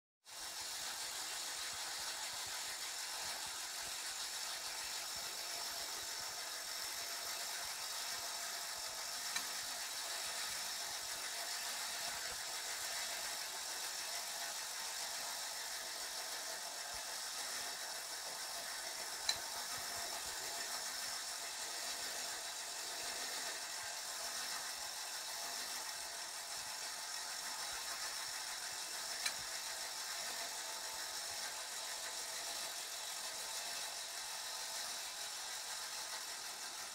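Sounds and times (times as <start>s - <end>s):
clockwork toy motor whirring: 0.2s - 36.9s.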